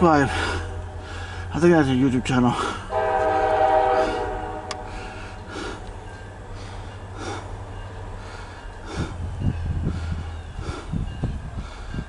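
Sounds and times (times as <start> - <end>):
diesel locomotive rumbling: 0.0 - 12.0
person breathing heavily: 0.2 - 1.6, 2.5 - 12.0.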